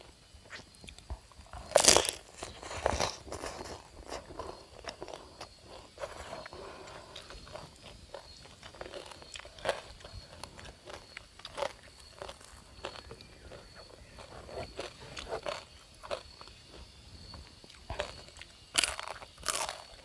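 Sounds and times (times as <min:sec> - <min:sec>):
chewing crispy pork skin: 0:00.0 - 0:20.0.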